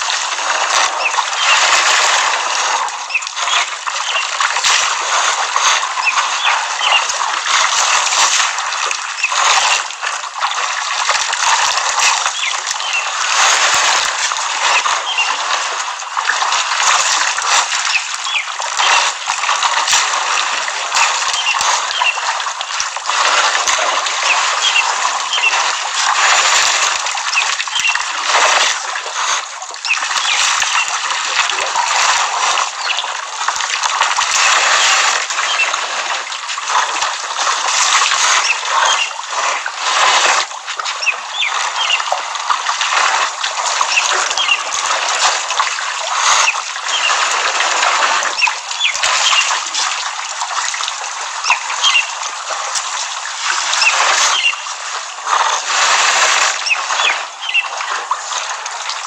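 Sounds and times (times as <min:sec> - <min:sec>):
elephants splashing water: 0:00.0 - 0:59.0.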